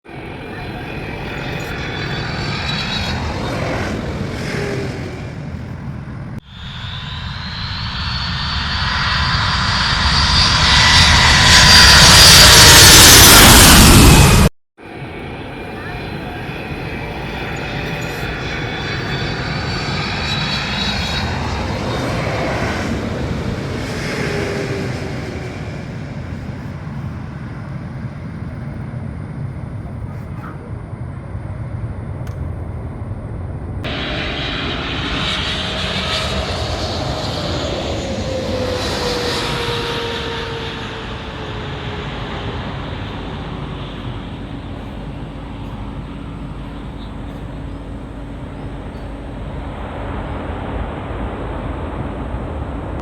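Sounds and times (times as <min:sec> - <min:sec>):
airplane engines roaring past: 0:00.0 - 0:53.0.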